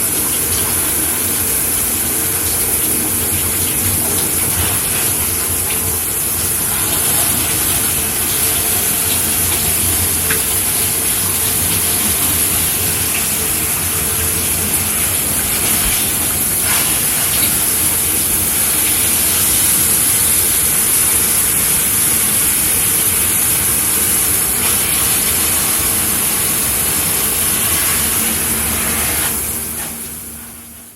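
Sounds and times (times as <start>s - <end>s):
shower spray running: 0.0s - 30.9s.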